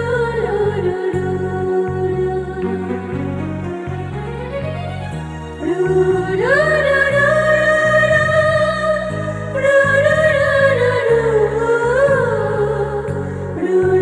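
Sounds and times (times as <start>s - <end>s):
synth bass line: 0.0s - 14.0s
wordless sung melody: 0.0s - 14.0s.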